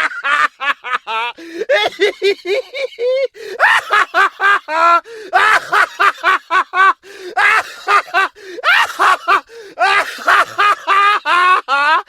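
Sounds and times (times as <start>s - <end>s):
man laughing evilly: 0.0s - 12.0s.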